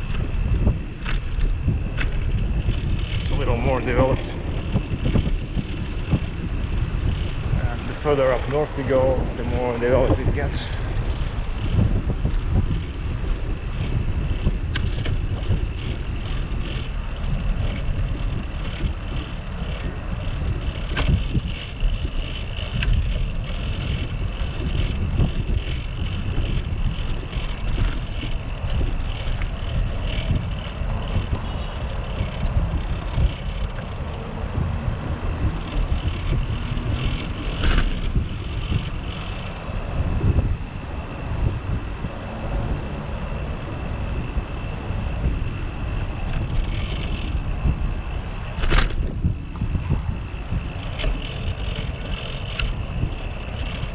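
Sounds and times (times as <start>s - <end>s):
bicycle clicks and knocks: 0.0s - 53.9s
wind buffeting microphone: 0.0s - 53.9s.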